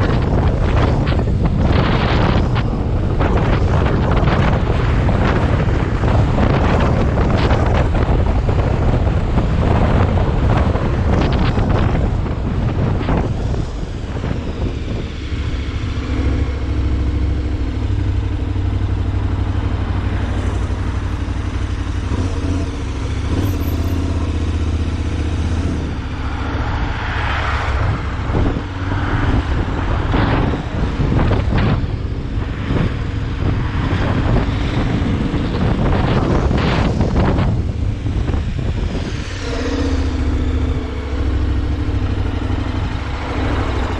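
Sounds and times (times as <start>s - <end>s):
vehicle engine running: 0.0s - 43.9s
wind buffeting microphone: 0.0s - 43.9s.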